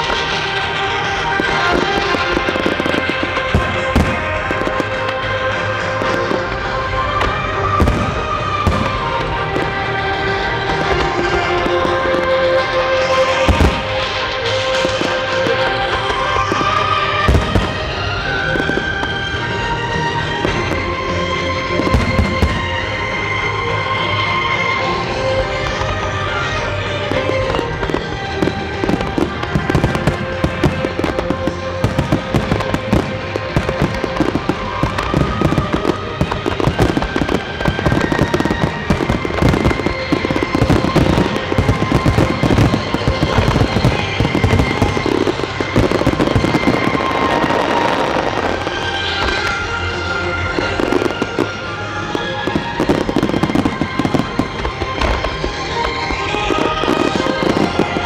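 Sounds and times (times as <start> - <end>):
fireworks crackling and banging: 0.0 - 58.0
music: 0.0 - 58.0.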